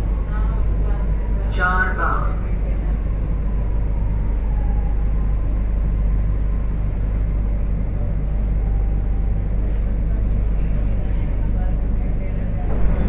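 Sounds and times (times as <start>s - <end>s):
faint train whine: 0.0s - 13.0s
train low rumble: 0.0s - 13.0s.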